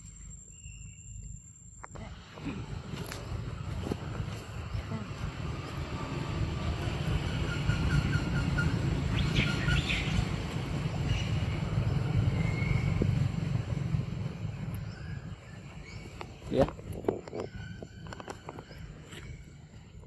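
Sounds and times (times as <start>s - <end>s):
birds chirping: 0.0s - 20.0s
vehicle engine rumbling: 0.0s - 20.0s.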